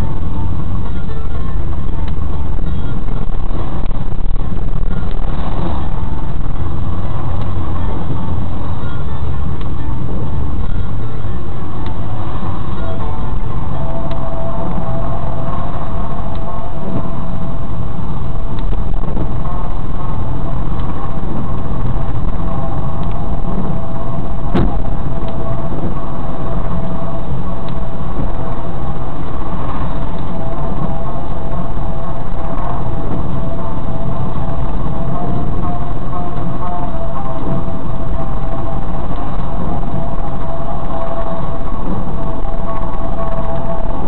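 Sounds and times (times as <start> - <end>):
car engine: 0.0 - 44.0
tyres on wet road: 0.0 - 44.0.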